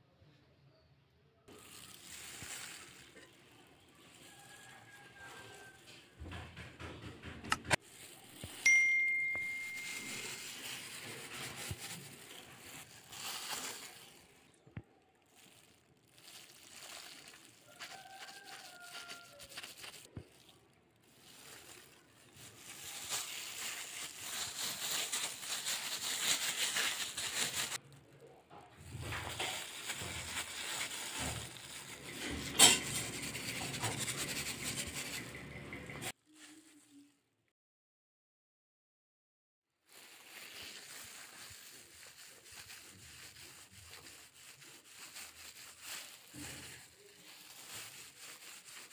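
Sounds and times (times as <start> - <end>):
dough rustling and scraping: 1.5 - 36.9, 39.8 - 48.9.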